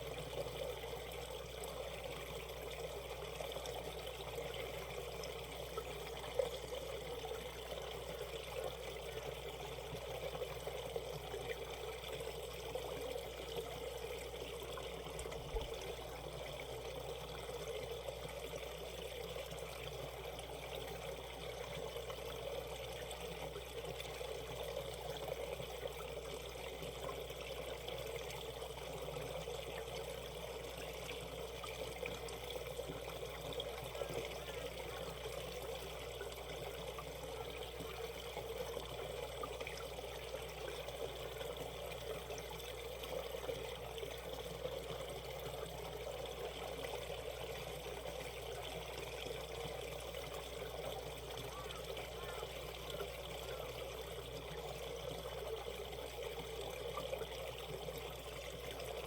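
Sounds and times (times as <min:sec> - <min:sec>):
stream babbling and trickling: 0:00.0 - 0:59.0.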